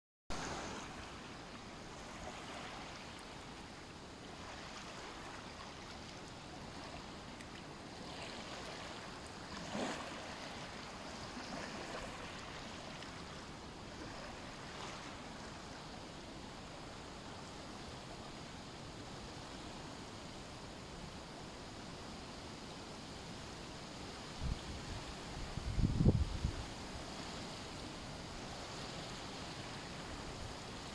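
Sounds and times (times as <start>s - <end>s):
small waves lapping on shore: 0.3s - 30.9s.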